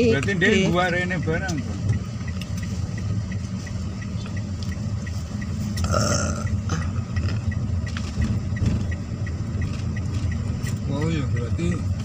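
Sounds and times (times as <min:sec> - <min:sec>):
car engine and tyres rumbling: 0:00.0 - 0:12.0
faint high ticking: 0:00.1 - 0:12.0.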